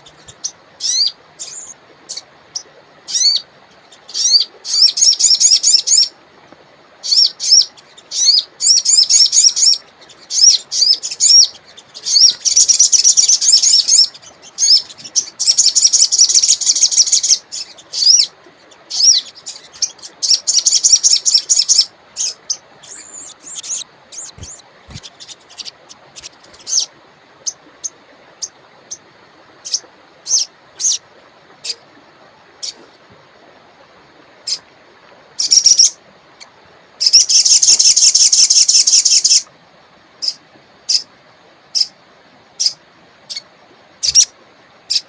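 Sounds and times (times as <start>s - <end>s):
songbird chirping and trilling: 0.0s - 6.2s, 7.0s - 29.0s, 29.6s - 31.8s, 35.4s - 39.5s, 40.2s - 41.1s, 41.7s - 42.0s, 42.6s - 44.3s.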